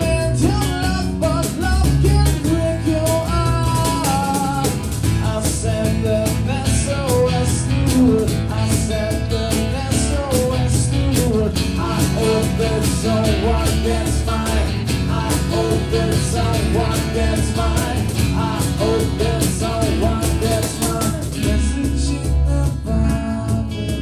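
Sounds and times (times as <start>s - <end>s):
rock band with guitars: 0.0s - 24.0s.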